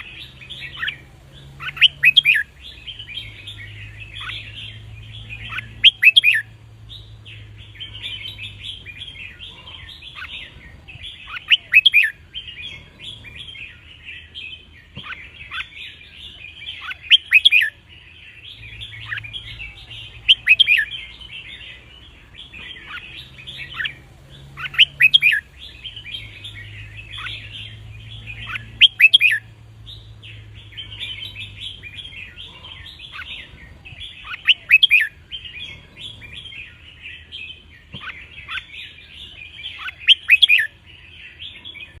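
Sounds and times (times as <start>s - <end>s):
bird song sharp clear notes: 0.0s - 42.0s
bird twittering chatter: 0.0s - 42.0s.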